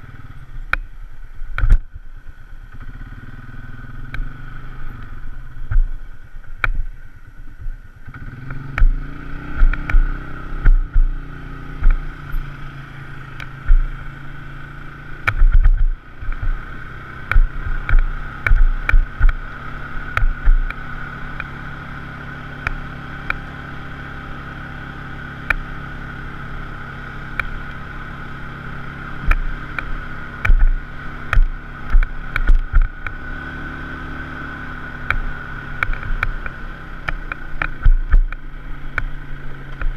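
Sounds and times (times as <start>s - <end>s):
off-road vehicle engine whining: 0.0s - 39.9s.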